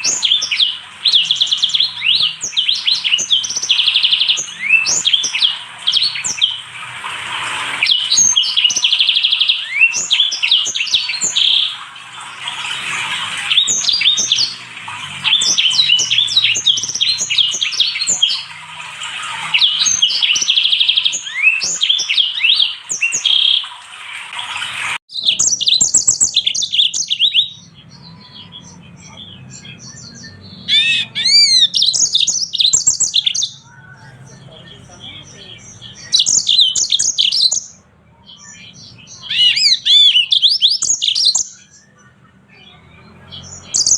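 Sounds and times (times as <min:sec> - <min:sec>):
bird whistles rising and falling: 0:00.0 - 0:06.8, 0:07.5 - 0:23.7, 0:24.7 - 0:34.0, 0:35.9 - 0:37.8, 0:39.2 - 0:42.0, 0:43.6 - 0:43.9
finches twittering songs: 0:00.0 - 0:23.8, 0:25.1 - 0:43.9.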